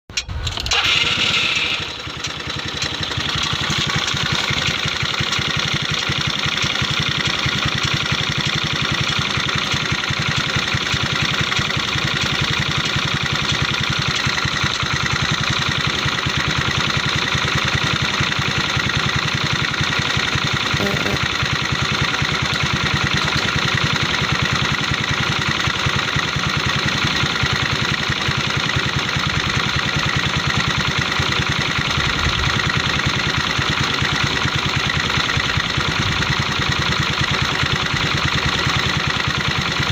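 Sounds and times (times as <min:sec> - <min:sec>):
scooter engine idling: 0:00.4 - 0:39.9.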